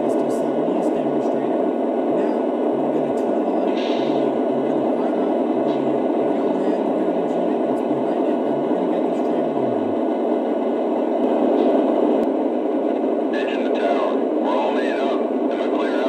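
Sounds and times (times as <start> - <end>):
muffled voice talking: 0.0 - 10.1, 12.9 - 16.0
model locomotive diesel idling: 0.0 - 16.0.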